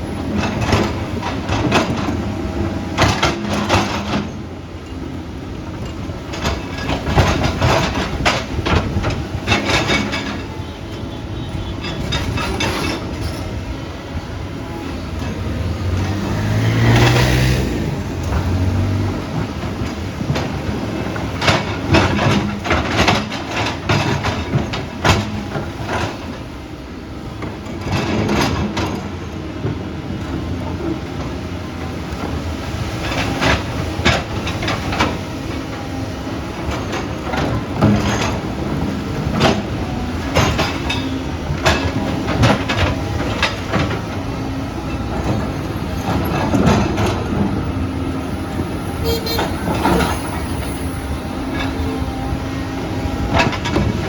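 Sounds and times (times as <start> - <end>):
heavy machine engine rumble: 0.0 - 54.0.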